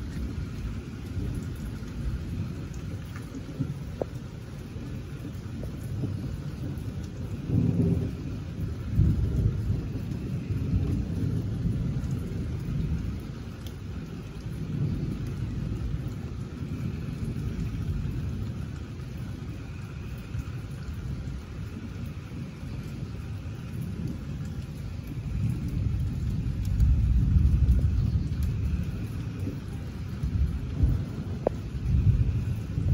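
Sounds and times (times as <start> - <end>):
thunder rumbling: 0.0 - 32.9.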